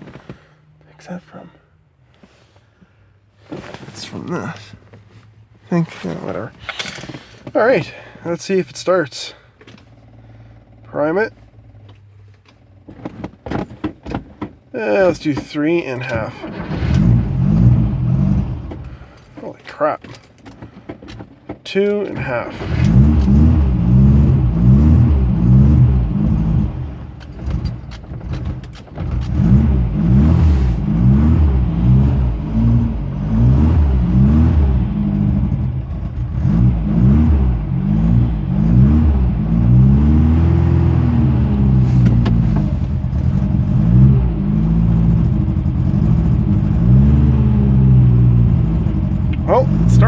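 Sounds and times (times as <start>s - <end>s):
car engine throttle blips: 3.4s - 50.0s.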